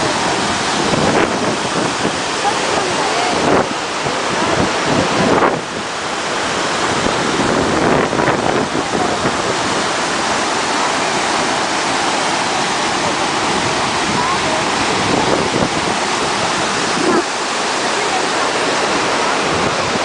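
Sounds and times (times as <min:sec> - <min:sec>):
wind buffeting microphone: 0:00.0 - 0:17.7, 0:18.5 - 0:20.0
waterfall rushing: 0:00.0 - 0:20.0.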